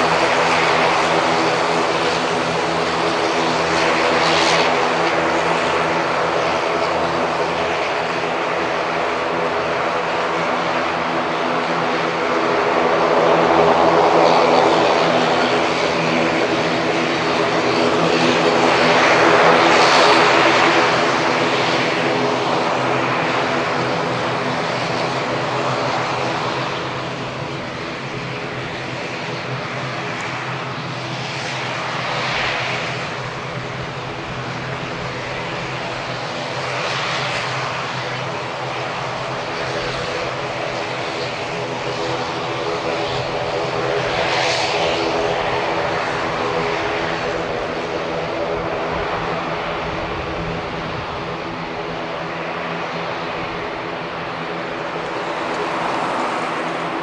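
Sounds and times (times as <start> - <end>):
turboprop propeller drone: 0.0 - 57.0.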